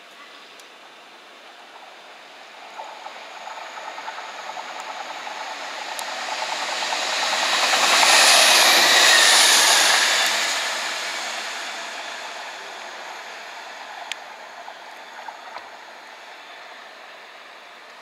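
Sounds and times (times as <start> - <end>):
diesel train passing at speed: 0.0 - 18.0.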